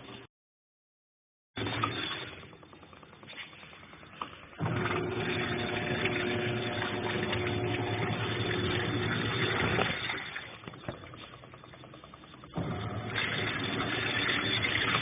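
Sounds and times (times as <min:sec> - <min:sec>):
washing machine motor humming: 0:01.6 - 0:15.0.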